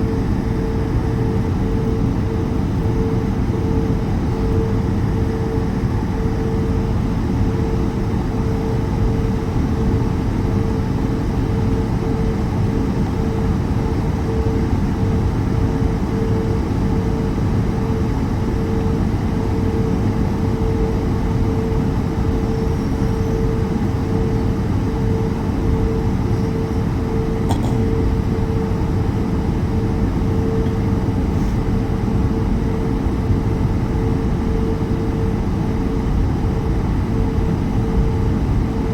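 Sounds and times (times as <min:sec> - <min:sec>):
aircraft cabin low rumble: 0:00.0 - 0:38.9
constant droning tone: 0:00.0 - 0:38.9.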